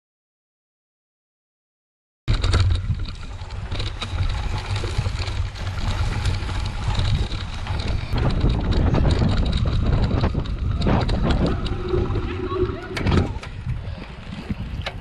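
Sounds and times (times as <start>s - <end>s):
bike ticks and rattles: 2.3s - 15.0s
wind noise on microphone: 2.3s - 15.0s.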